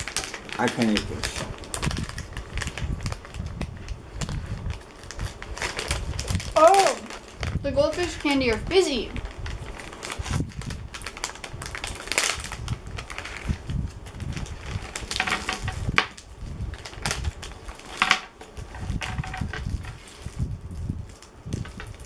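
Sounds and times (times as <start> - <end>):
plastic candy wrappers crinkling: 0.0 - 22.0.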